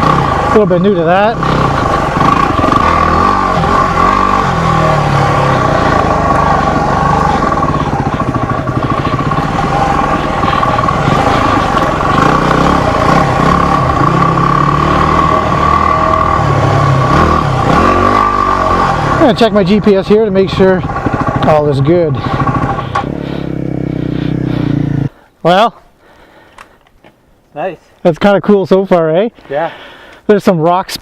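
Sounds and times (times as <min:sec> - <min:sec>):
motorcycle engine revving: 0:00.0 - 0:25.2.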